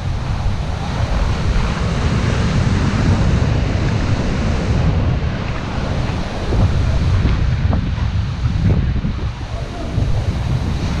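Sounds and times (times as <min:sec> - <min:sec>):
surf breaking and water rushing: 0:00.0 - 0:11.0
wind buffeting microphone: 0:00.0 - 0:11.0.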